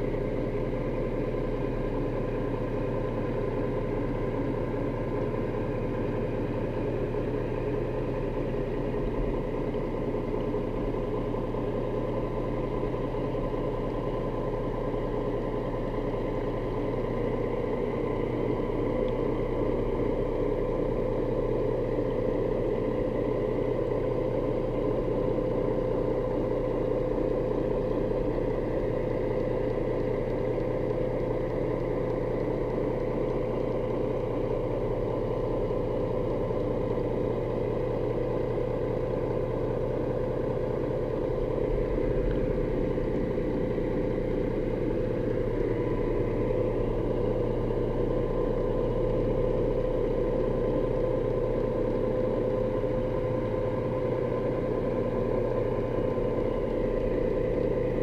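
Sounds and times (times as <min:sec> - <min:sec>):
boat motor heard underwater: 0:00.0 - 0:58.0.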